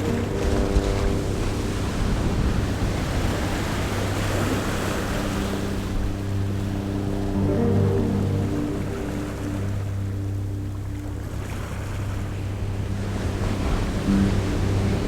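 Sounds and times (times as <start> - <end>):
low droning music tones: 0.0 - 15.0
ocean waves rolling in: 0.0 - 15.0.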